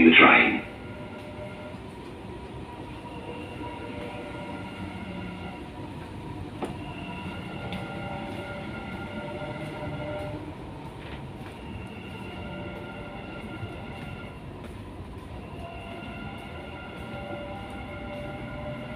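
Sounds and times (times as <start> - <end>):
train running gear rumble: 0.0 - 18.9.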